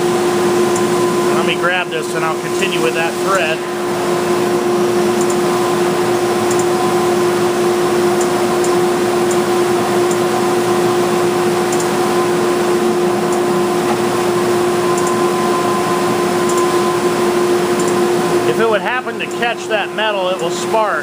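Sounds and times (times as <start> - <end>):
belt sander drone: 0.0 - 20.9.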